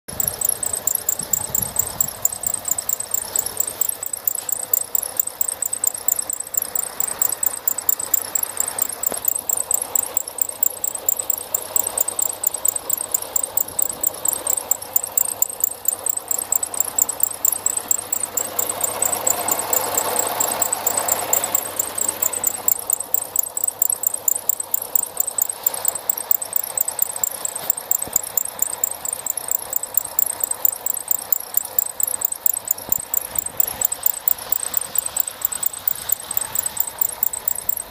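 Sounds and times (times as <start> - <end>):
alternator pulley squeaking: 0.0 - 37.9
car engine running: 0.0 - 37.9.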